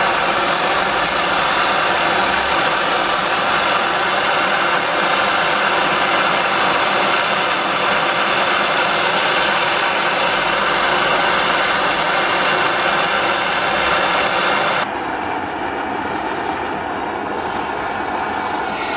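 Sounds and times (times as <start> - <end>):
gas torch flame hissing: 0.0 - 18.9.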